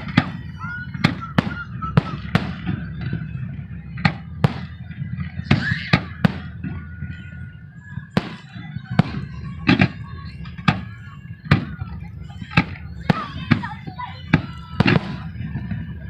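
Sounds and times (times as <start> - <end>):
fireworks sharp bangs: 0.0 - 16.0
low rumble: 0.0 - 16.0.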